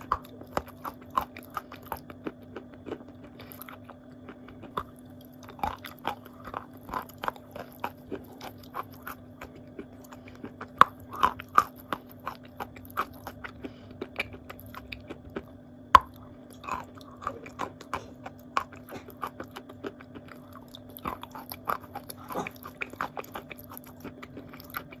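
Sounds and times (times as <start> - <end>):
clay being chewed: 0.0 - 25.0
steady low hum: 0.0 - 25.0.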